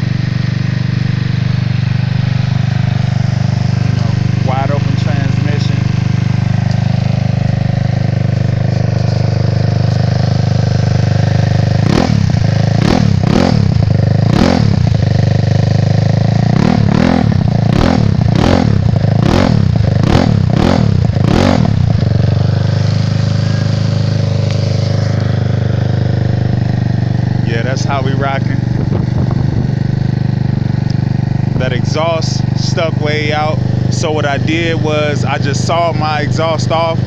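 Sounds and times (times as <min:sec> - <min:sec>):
scooter engine idling and revving: 0:00.0 - 0:37.0.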